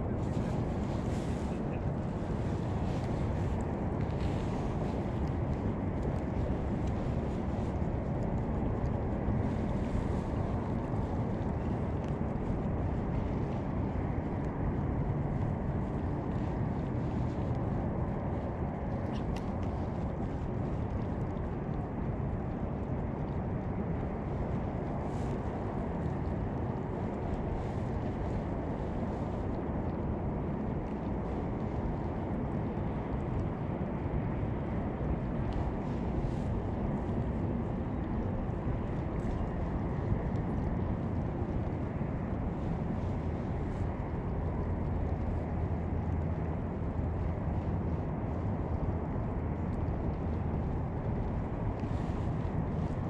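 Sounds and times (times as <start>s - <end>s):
wind buffeting microphone: 0.0s - 53.0s
faint light ticks: 2.6s - 53.0s.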